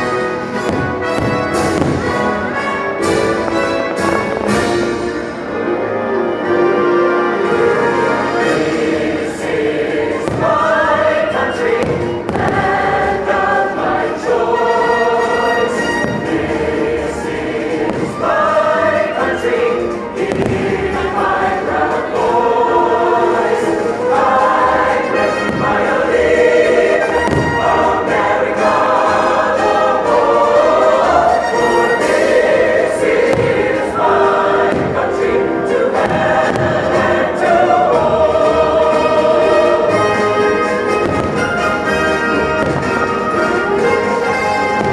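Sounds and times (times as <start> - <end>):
fireworks booming: 0.0 - 6.0, 7.6 - 44.9
choir singing over orchestral music: 0.0 - 44.9.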